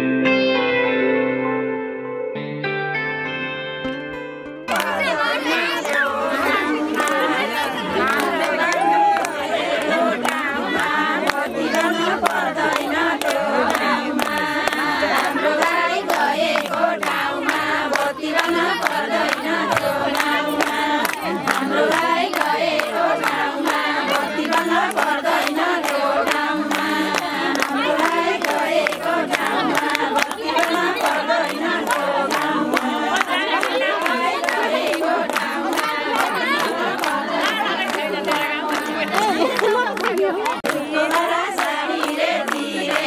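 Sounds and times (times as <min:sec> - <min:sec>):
rhythmic hand clapping: 0:04.5 - 0:43.0
women singing folk song: 0:04.7 - 0:43.0.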